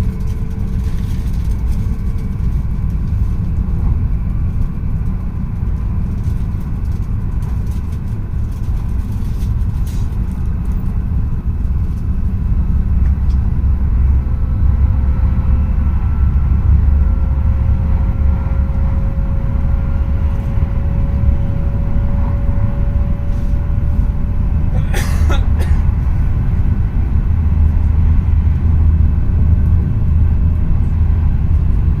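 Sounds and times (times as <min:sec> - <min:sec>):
train interior low rumble: 0:00.0 - 0:32.0.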